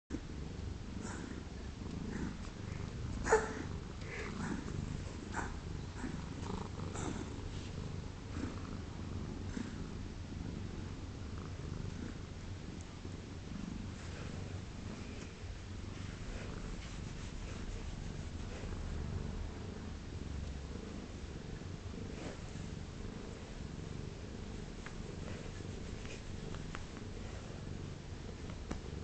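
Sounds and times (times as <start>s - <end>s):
low steady rumble: 0.1s - 29.0s.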